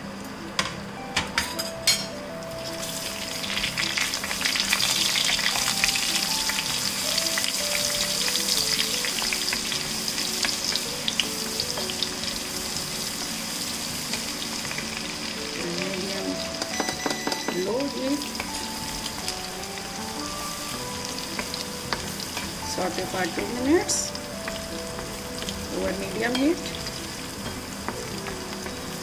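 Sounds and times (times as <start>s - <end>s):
spices sizzling in hot oil: 1.4s - 29.0s.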